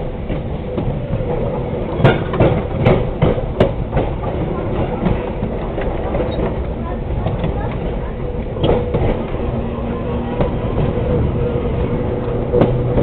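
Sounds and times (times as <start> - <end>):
train wheels rumbling: 0.0 - 13.0
wheels clicking over rail joints: 0.2 - 13.0.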